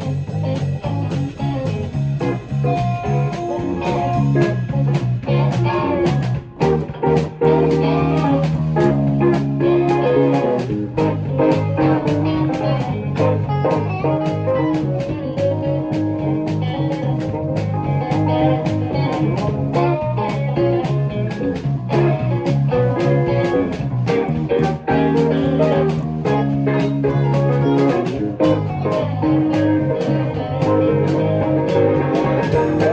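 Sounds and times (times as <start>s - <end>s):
electric bass: 0.0s - 32.9s
guitar: 0.0s - 32.9s
live band playing: 0.0s - 32.9s.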